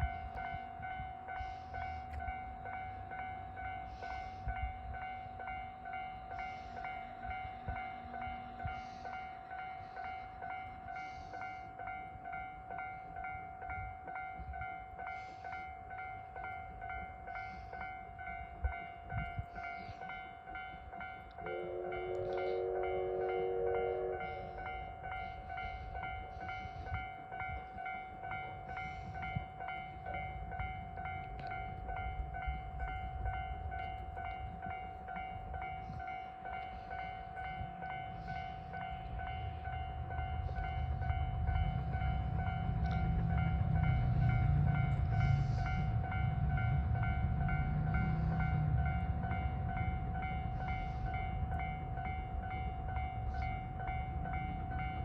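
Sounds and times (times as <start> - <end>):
train low rumble: 0.0 - 55.0.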